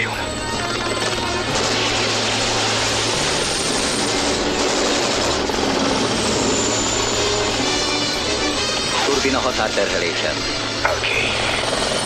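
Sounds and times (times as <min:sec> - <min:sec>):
helicopter turbine and rotor: 0:00.0 - 0:12.0.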